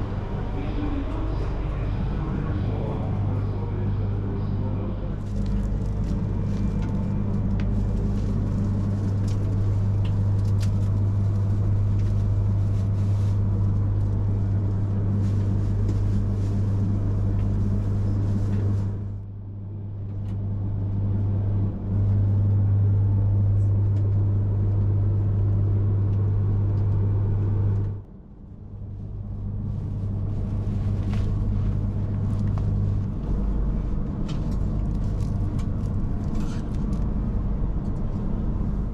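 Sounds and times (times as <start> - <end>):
train electrical hum: 0.0 - 38.9.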